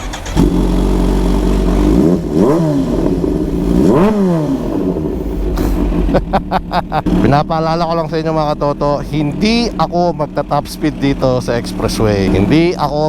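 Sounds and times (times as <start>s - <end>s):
motorcycle engine revving: 0.0s - 13.0s
motorcycle engine starting and idling: 0.0s - 13.0s.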